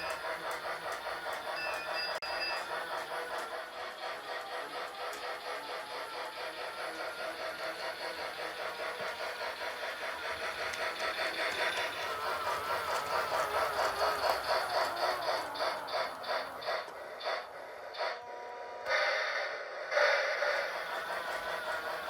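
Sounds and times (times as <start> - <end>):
toy train running rattle: 0.0 - 18.2, 19.0 - 22.0
toy train steam chuffing: 0.0 - 22.0.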